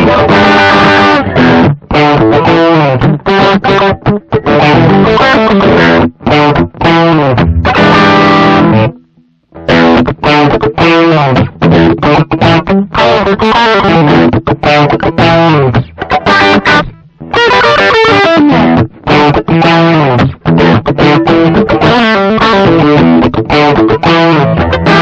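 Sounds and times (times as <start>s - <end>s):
overdriven electric guitar chords: 0.0s - 25.0s.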